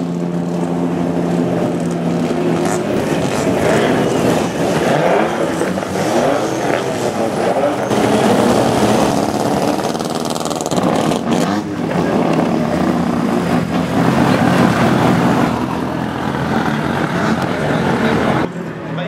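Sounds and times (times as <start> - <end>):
car engines running at low speed: 0.0 - 19.0.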